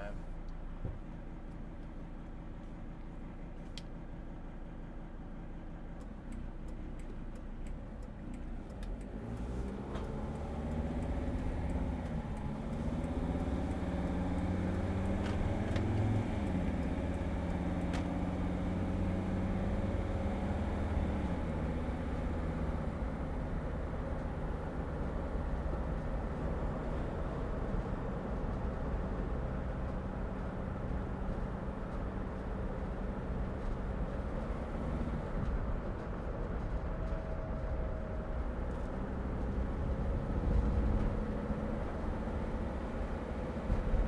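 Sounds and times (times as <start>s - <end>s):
road noise: 0.0s - 44.0s
van engine: 0.0s - 44.0s.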